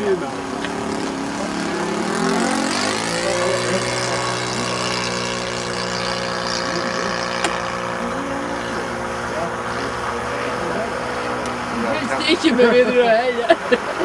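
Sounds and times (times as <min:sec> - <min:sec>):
model airplane engine running: 0:00.0 - 0:14.0.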